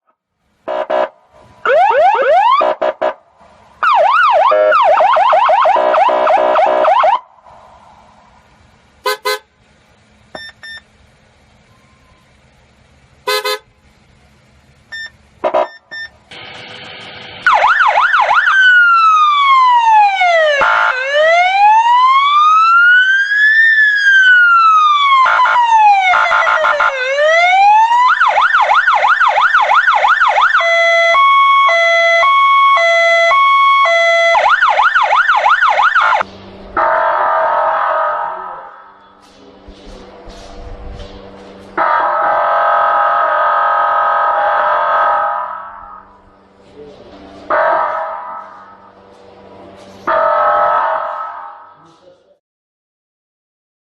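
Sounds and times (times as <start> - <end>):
short siren blasts: 0.7 - 8.3, 11.6 - 13.7, 14.9 - 46.6, 47.2 - 51.8
emergency vehicle siren: 0.7 - 9.4, 10.0 - 13.6, 14.6 - 51.9.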